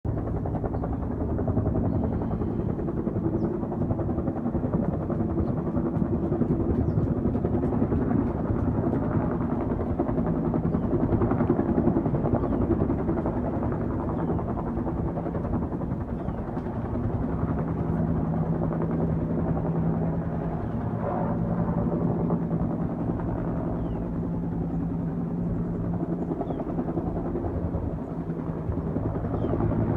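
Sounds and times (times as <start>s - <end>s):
helicopter rotor beating: 0.1s - 29.9s.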